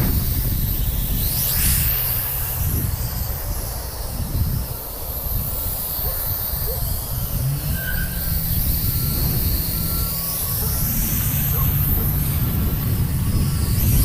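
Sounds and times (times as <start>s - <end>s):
quadcopter motors whining: 0.0s - 14.0s
wind buffeting microphone: 0.0s - 14.0s.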